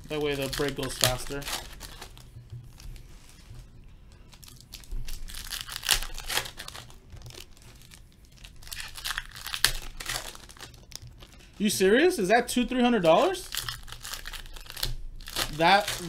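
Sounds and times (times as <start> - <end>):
card pack wrappers crinkling: 0.0 - 3.4, 4.1 - 16.0.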